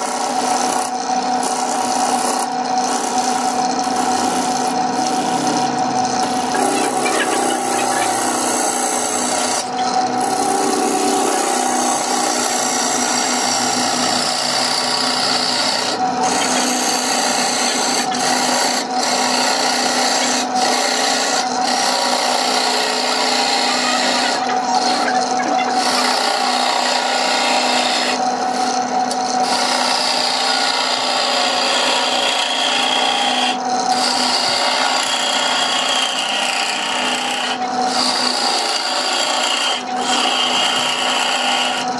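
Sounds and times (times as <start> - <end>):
lathe motor hum: 0.0 - 41.9
turning tool cutting wood: 0.0 - 41.9.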